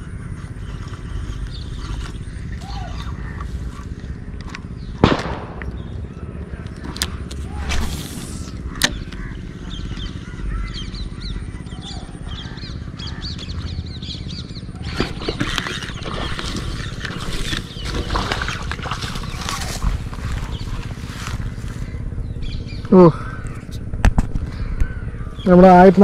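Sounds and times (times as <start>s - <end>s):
small birds chirping: 0.0s - 5.0s, 5.6s - 26.0s
low rumble: 0.0s - 26.0s.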